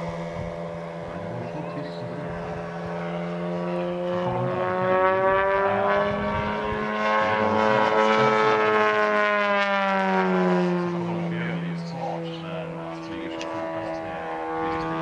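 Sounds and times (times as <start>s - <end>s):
model plane engine and propeller: 0.0s - 15.0s
steady low hum: 0.0s - 15.0s.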